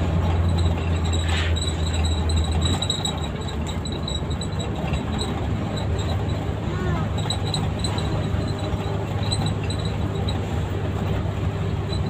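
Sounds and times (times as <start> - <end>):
bus engine hum: 0.0 - 12.0
road noise: 0.0 - 12.0
ticking rattles: 0.0 - 12.0.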